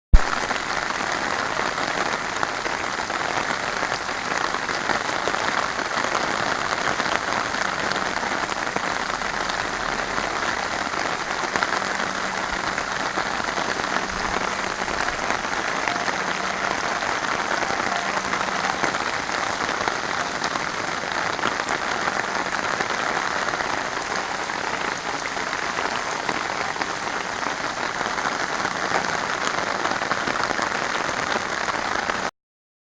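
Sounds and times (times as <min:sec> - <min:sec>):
heavy rain pouring: 0:00.1 - 0:32.3.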